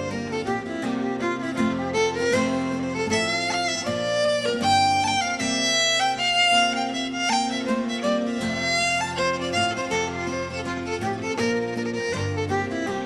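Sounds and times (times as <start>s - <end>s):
fiddle playing fast notes: 0.0s - 13.0s.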